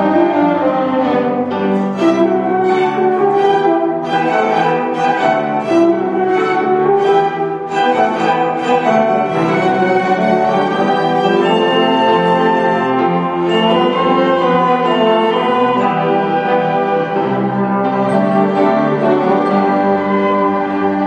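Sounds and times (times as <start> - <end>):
orchestra with bowed strings: 0.0 - 21.0.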